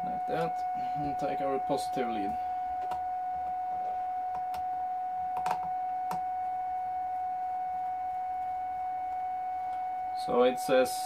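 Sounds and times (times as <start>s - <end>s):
high-pitched electronic whine: 0.0s - 11.0s.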